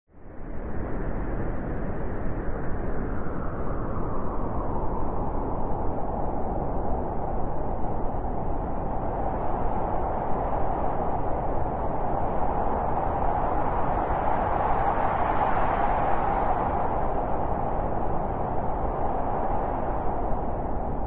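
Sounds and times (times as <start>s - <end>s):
howling blizzard wind: 0.1s - 21.0s.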